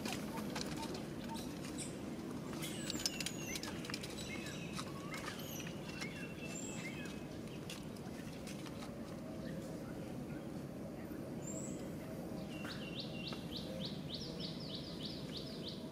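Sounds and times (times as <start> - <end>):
low background noise: 0.0 - 15.9.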